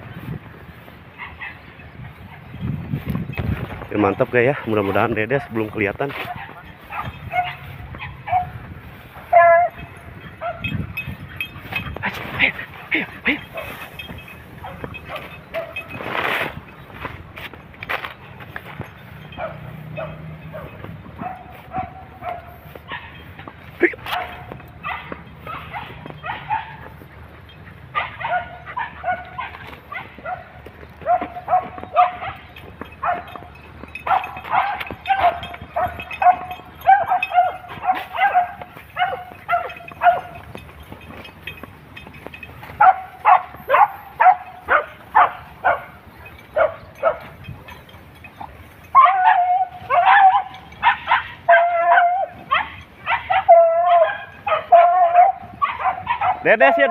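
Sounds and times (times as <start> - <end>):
dogs barking: 0.0 - 56.9.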